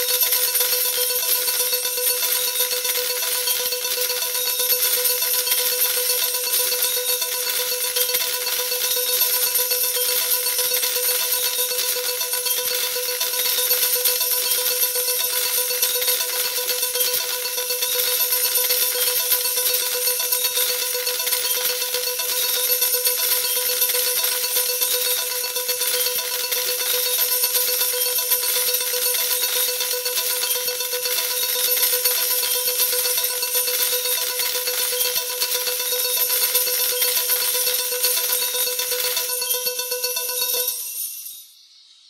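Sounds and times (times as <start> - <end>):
jingling shower of coins: 0.0 - 41.5.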